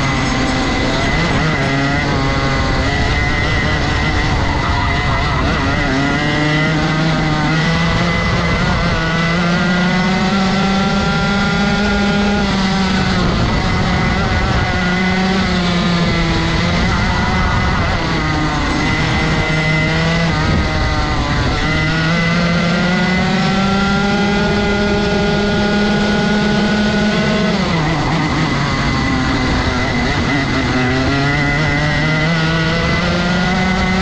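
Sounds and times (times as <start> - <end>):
kart engine revving: 0.0 - 34.0.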